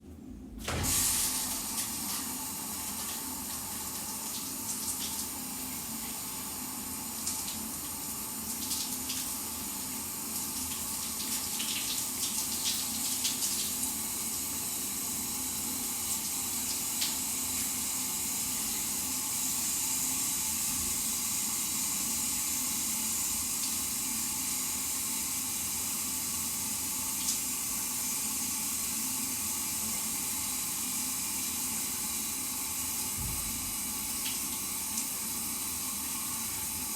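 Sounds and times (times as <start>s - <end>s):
shower water spraying: 0.6s - 36.9s.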